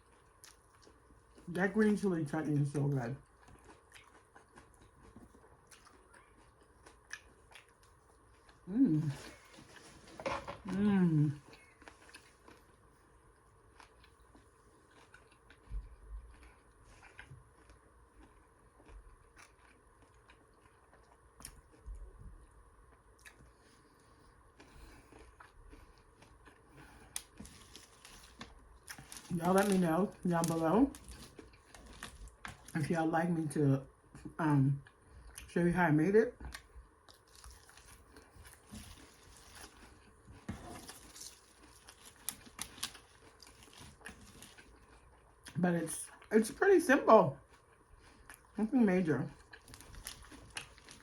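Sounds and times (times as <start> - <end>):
person chewing food: 0.0 - 1.5, 2.6 - 32.8, 34.8 - 35.5, 36.4 - 46.3, 47.4 - 48.6, 49.3 - 51.0.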